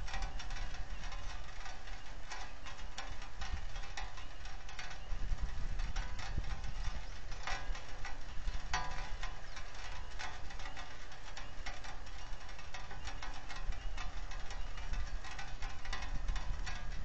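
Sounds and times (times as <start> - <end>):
raindrops ticking on microphone: 0.0 - 17.0.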